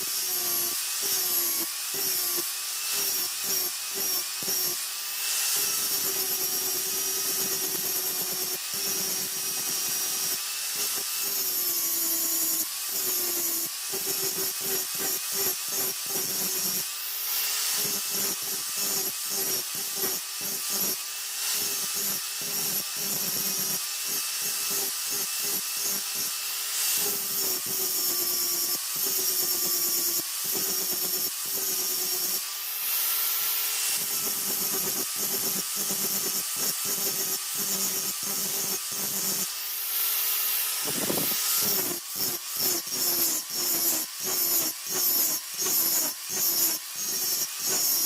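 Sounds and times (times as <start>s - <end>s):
power tool motor humming: 0.0s - 48.0s.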